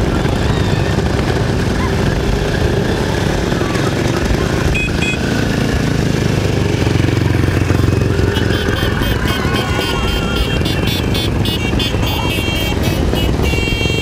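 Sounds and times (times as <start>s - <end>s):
motorcycle engines pulsing: 0.0s - 14.0s.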